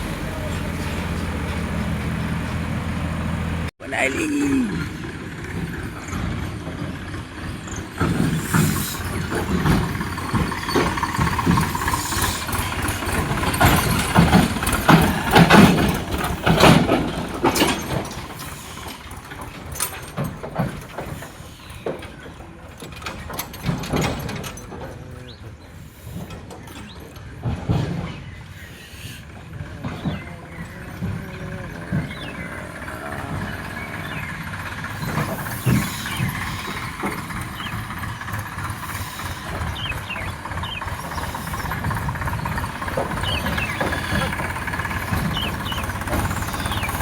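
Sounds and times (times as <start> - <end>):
engine rattles: 0.0 - 47.0
tractor engine running: 0.0 - 47.0.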